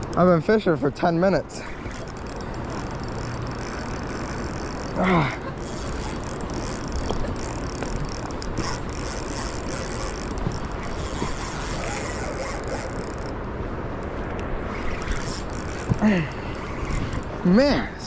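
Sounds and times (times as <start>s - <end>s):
fishing reel whirring and clicking: 0.0s - 13.4s, 14.6s - 17.4s
river current rushing: 1.1s - 18.0s.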